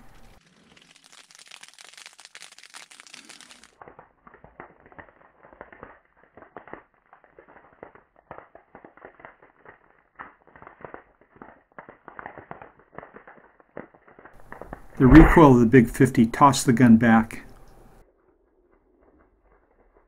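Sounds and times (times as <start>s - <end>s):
faint irregular crackling and ticking: 0.0s - 20.0s.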